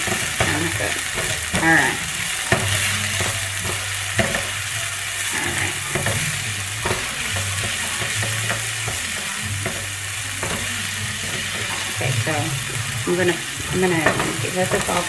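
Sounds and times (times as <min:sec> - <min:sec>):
onions sizzling in oil: 0:00.0 - 0:15.0
spatula scraping a pan: 0:00.0 - 0:15.0.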